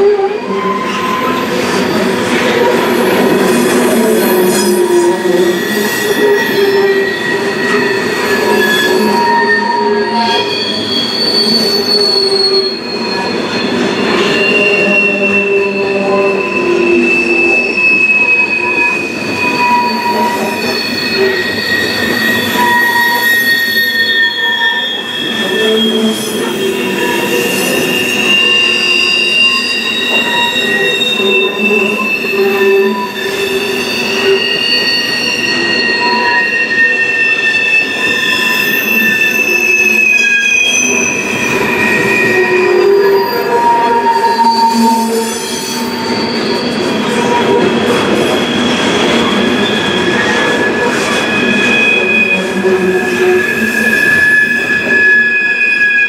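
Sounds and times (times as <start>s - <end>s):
train wheels squealing: 0.0s - 56.0s
train wheels rolling on track: 0.8s - 55.6s.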